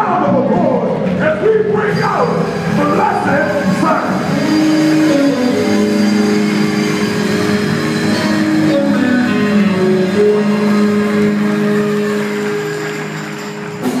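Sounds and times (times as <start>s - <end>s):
live band with guitar: 0.1s - 14.0s.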